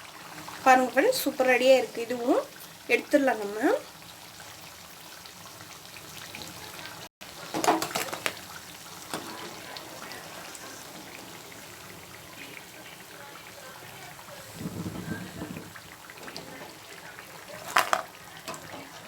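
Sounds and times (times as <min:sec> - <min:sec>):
bread deep-frying in hot oil: 0:00.0 - 0:19.0.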